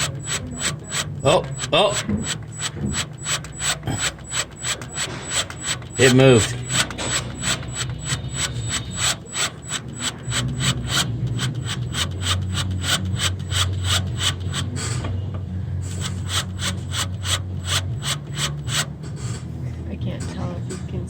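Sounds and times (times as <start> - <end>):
drill bit scraping chatter: 0.0 - 21.0
power drill motor hum: 0.0 - 21.0.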